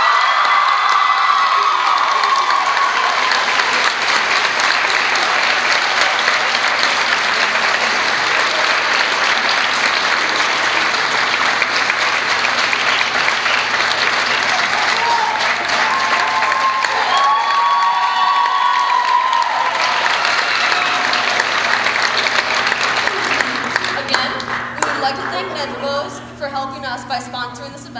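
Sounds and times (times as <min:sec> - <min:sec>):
shrill held cheer: 0:00.0 - 0:24.4
audience applauding: 0:00.0 - 0:26.1.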